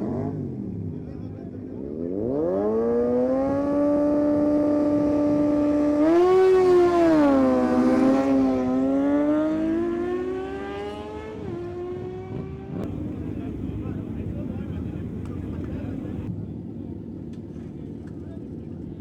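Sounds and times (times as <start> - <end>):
high-revving motorcycle engine: 0.0 - 16.3.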